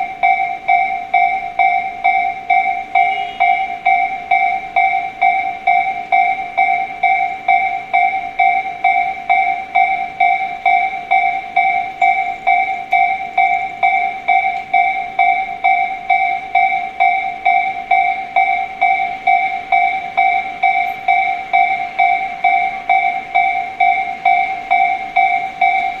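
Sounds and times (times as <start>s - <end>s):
level crossing warning bell: 0.0s - 26.0s.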